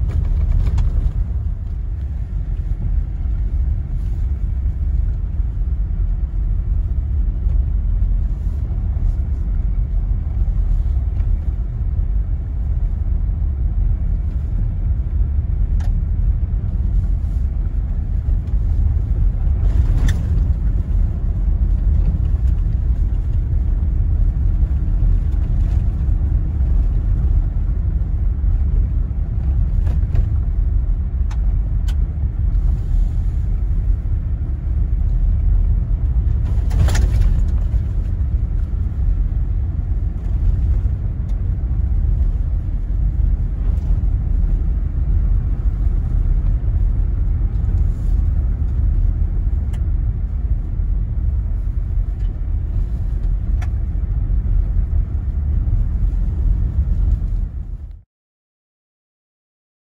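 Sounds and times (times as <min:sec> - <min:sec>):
vehicle driving on gravel: 0:00.0 - 0:58.0.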